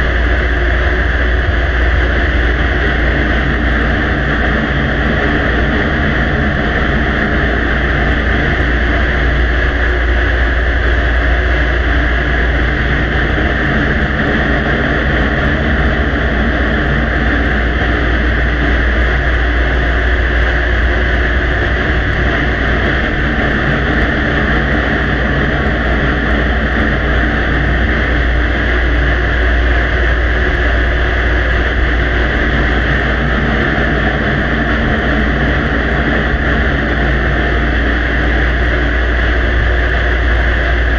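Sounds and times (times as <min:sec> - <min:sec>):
low rumble: 0:00.0 - 0:40.9.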